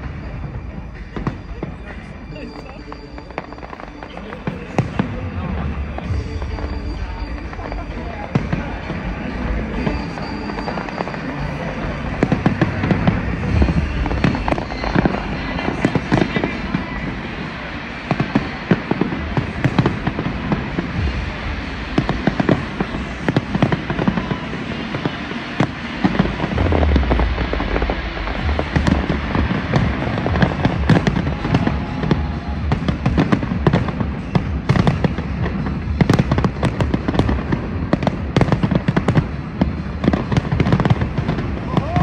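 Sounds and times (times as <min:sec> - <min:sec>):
deep fireworks booms: 0:00.0 - 0:42.0
fireworks bangs and crackling: 0:00.0 - 0:42.0.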